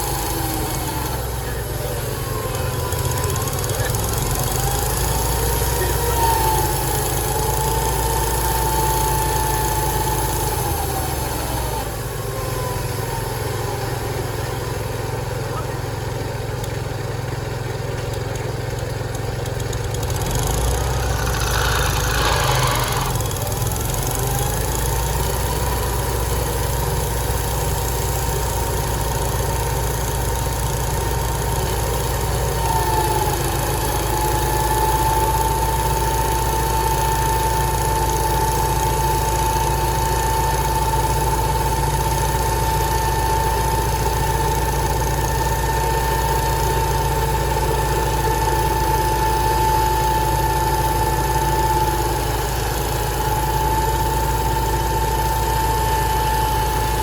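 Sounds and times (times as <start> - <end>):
high saw whine: 0.0 - 16.3, 19.6 - 57.0
engine hum: 0.0 - 57.0.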